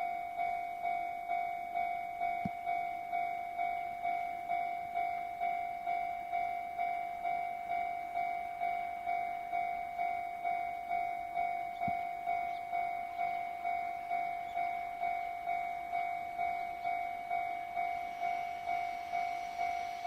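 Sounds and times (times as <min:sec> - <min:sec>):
level crossing warning bell: 0:00.0 - 0:20.0
approaching train rushing: 0:03.1 - 0:20.0.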